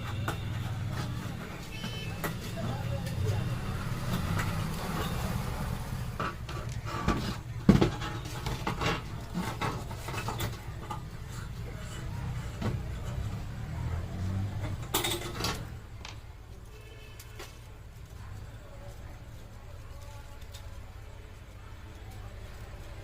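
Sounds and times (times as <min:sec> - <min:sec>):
objects being handled: 0:00.0 - 0:23.0.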